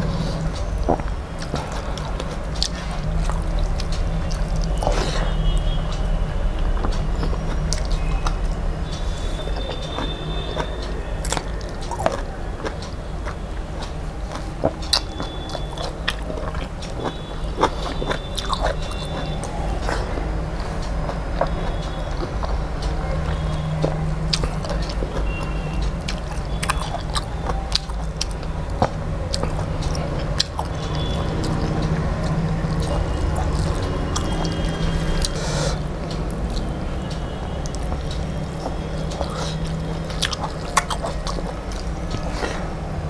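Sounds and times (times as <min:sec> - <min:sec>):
chewing: 0:00.0 - 0:43.0
steady low hum: 0:00.0 - 0:43.0
wet mouth clicks and smacks: 0:00.2 - 0:42.7.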